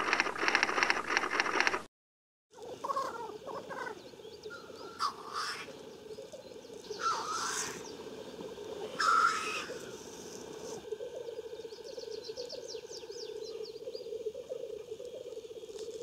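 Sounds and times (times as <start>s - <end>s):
grouse bubbling chorus: 2.6s - 16.0s
loud hissing calls: 2.6s - 16.0s.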